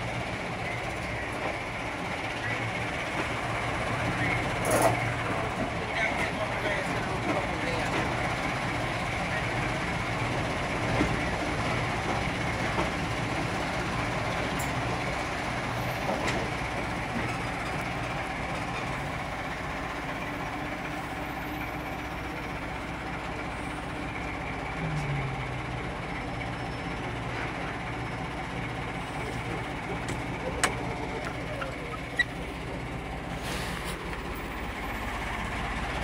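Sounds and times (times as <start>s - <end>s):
railway coach rumbling on rails: 0.0s - 36.0s.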